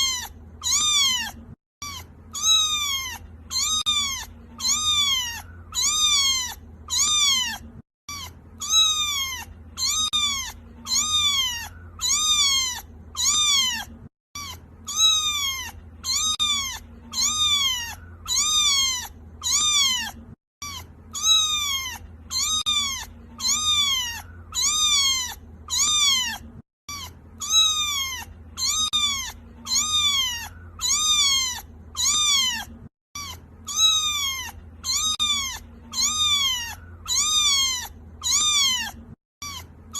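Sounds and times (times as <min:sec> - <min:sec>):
kitten meowing: 0:00.0 - 0:39.9.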